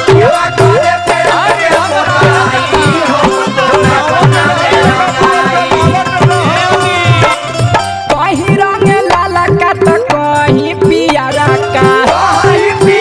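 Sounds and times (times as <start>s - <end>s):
busy drum beat: 0.0s - 13.0s
lead melody with sliding notes: 0.0s - 13.0s.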